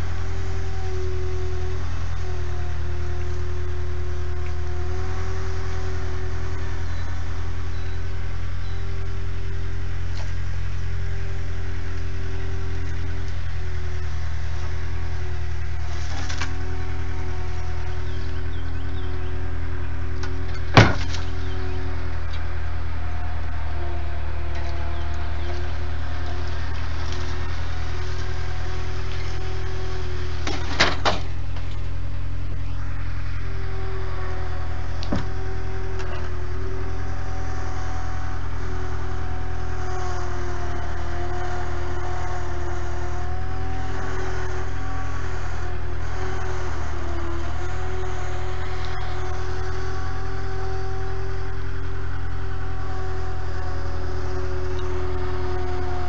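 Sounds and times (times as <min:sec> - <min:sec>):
loader engine drone with whine: 0:00.0 - 0:56.0.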